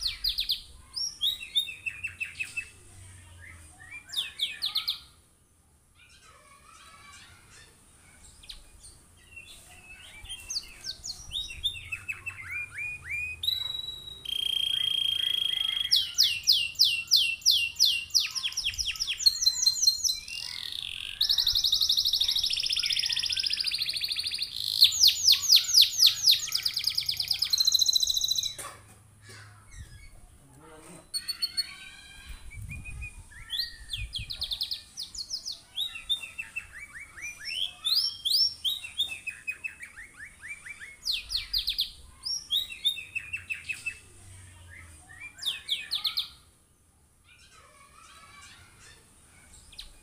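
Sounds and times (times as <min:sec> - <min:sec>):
canary singing with trills: 0:00.0 - 0:05.3, 0:06.0 - 0:28.6, 0:29.6 - 0:46.6, 0:47.2 - 0:50.0.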